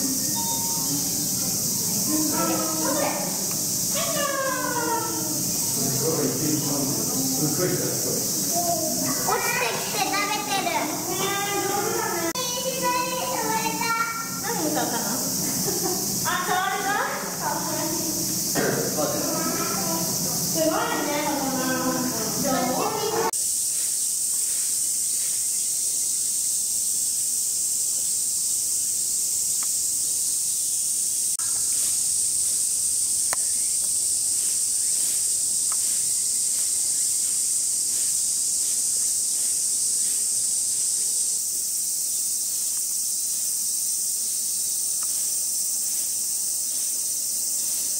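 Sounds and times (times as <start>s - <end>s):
cicada chorus hissing: 0.0s - 47.9s.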